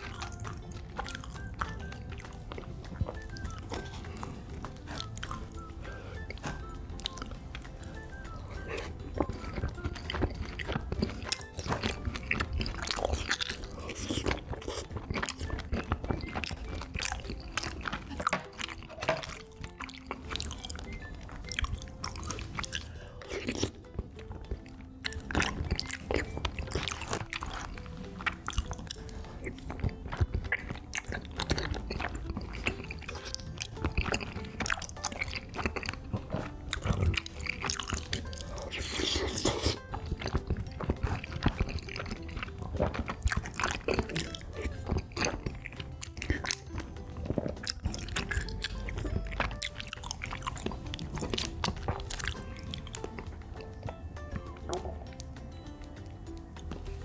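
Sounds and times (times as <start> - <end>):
quiet background music: 0.0 - 57.0
wet chewing sounds: 0.0 - 57.0.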